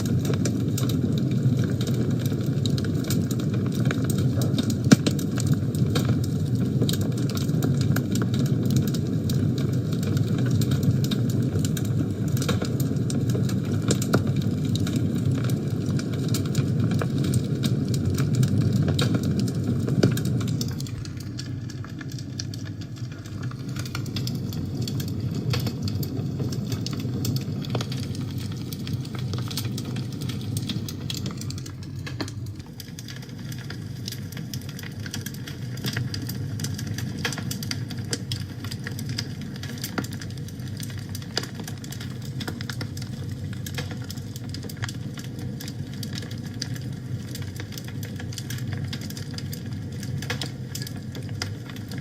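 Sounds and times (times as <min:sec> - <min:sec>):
fire crackling and popping: 0:00.0 - 0:52.0
fire flame rushing: 0:00.0 - 0:52.0.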